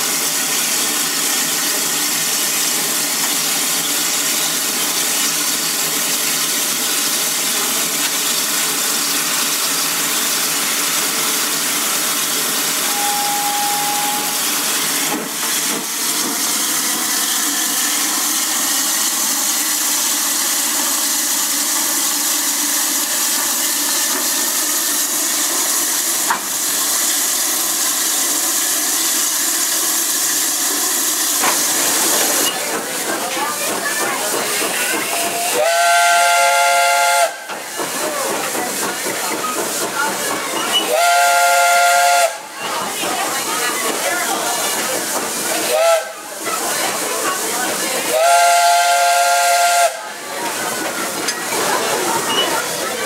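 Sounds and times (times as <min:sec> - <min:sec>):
steam locomotive hissing: 0:00.0 - 0:53.0.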